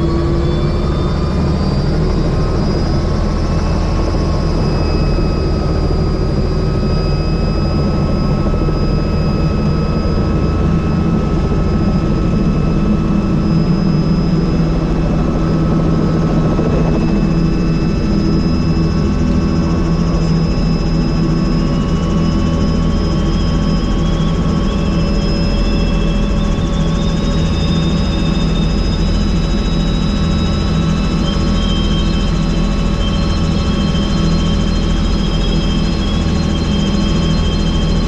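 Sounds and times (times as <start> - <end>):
helicopter rotor and engine din: 0.0 - 38.0
high turbine whine: 0.0 - 38.0.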